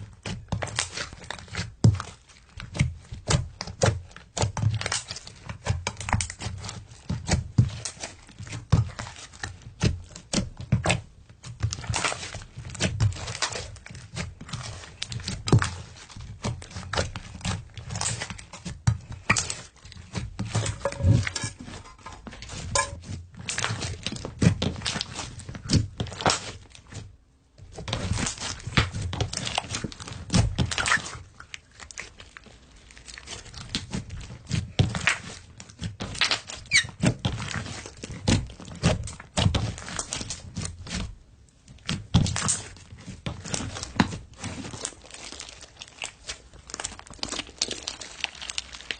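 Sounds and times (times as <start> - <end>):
slime being squished by hand: 0.0 - 48.9.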